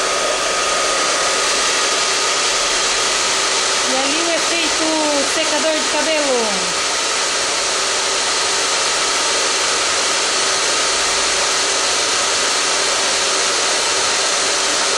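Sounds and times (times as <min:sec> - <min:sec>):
hair dryer running: 0:00.0 - 0:14.9.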